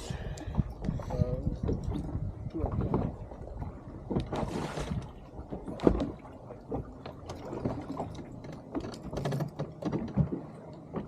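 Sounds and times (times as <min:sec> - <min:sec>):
knocks and bumps on boat: 0:00.5 - 0:11.0.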